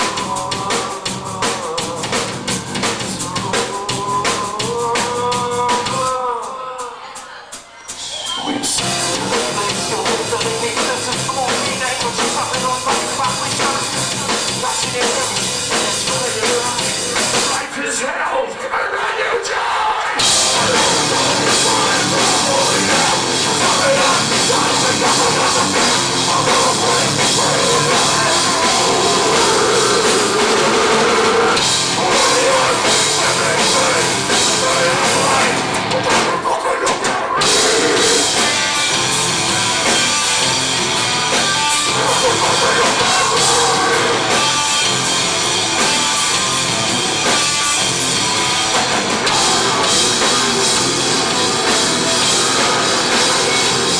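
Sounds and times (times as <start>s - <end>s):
pounding drum kit and cymbals: 0.0s - 18.7s, 19.4s - 53.9s
heavy rock band playing: 0.0s - 53.9s.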